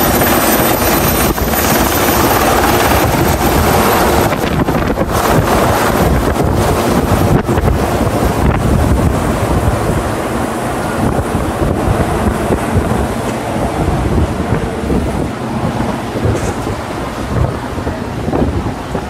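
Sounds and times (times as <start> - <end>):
steady low rumble: 0.0 - 19.0
wind buffeting microphone: 0.0 - 19.0.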